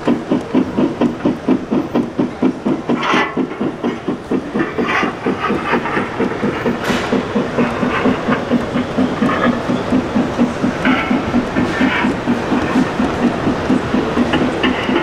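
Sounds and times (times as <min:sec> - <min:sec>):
model steam train chugging: 0:00.0 - 0:15.0.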